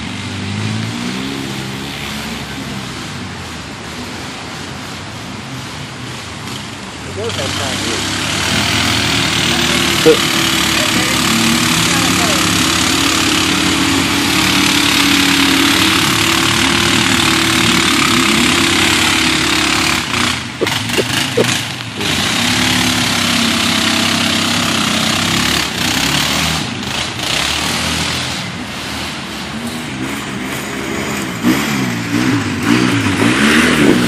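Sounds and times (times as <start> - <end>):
quad bike engines running hard: 0.0 - 34.0.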